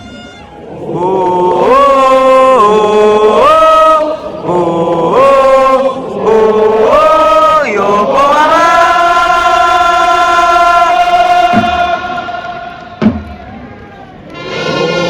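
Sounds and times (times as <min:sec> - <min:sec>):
stadium crowd singing a cheer: 0:00.0 - 0:13.6, 0:14.3 - 0:15.0.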